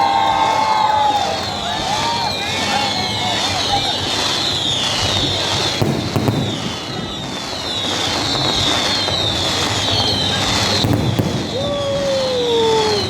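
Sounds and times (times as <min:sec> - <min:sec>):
falling firework whistles: 0:00.0 - 0:13.0
fireworks crackling: 0:00.0 - 0:13.0
sharp firework crack: 0:00.0 - 0:13.0.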